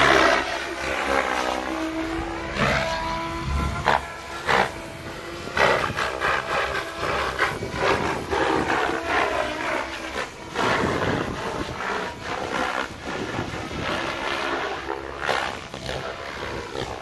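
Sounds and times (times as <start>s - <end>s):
rc helicopter rotor roar: 0.0s - 17.0s.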